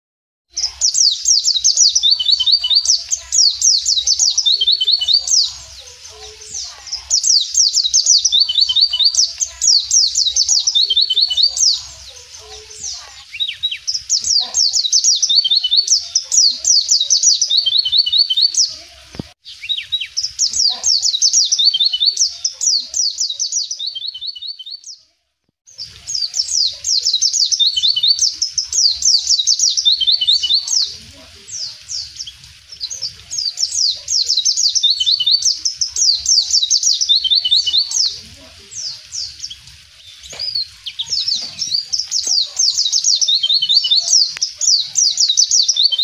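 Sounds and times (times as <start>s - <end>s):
white-eye bird singing: 0.5s - 25.1s, 25.7s - 46.0s.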